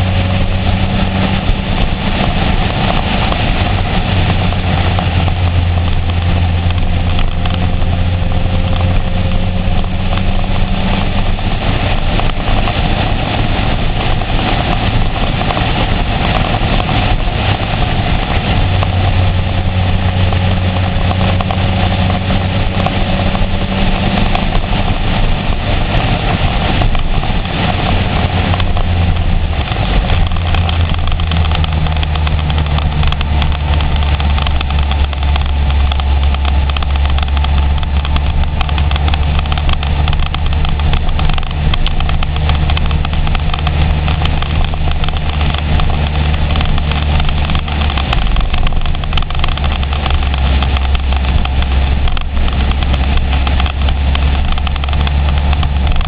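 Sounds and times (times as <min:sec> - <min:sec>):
motorcycle engine running: 0:00.0 - 0:56.0
steady rushing noise: 0:00.0 - 0:56.0.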